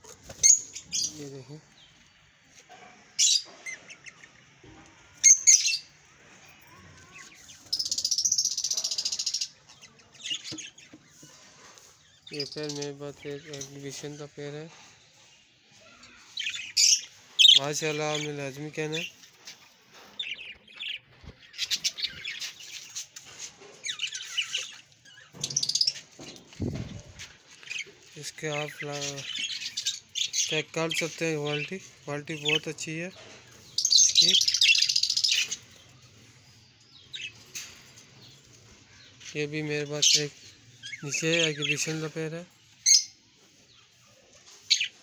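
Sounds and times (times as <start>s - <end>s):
budgerigars chirping and chattering: 0.0s - 15.2s, 16.1s - 45.0s.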